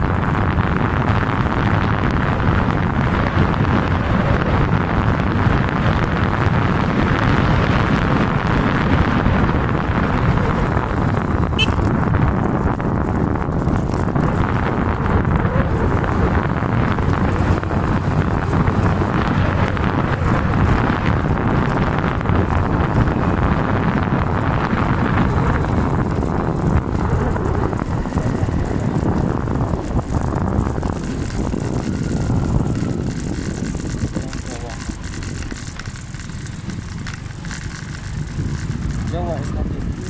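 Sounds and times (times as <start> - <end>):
vehicle rumble: 0.0 - 40.0
wind buffeting microphone: 0.0 - 40.0.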